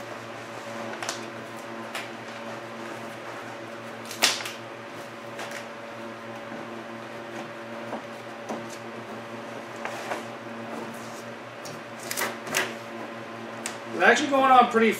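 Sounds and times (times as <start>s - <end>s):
steady hum: 0.0s - 14.9s.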